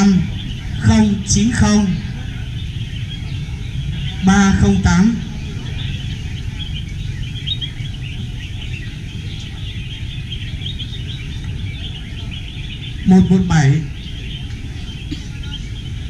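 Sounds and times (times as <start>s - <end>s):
birds chirping in chorus: 0.0s - 16.0s
low background rumble: 0.0s - 16.0s.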